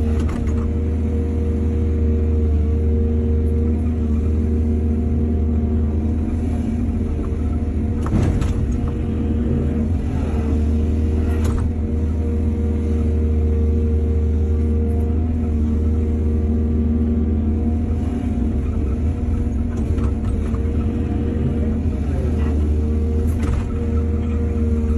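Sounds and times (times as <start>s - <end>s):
excavator diesel engine drone: 0.0s - 24.9s.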